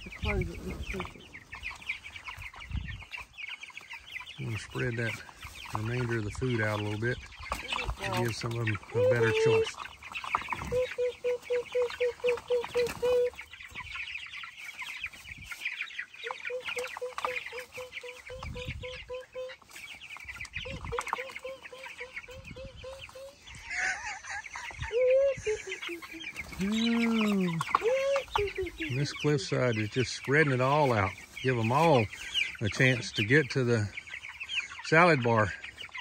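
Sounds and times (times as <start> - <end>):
chicks peeping: 0.0 - 36.0
rising-and-falling calls: 0.8 - 36.0.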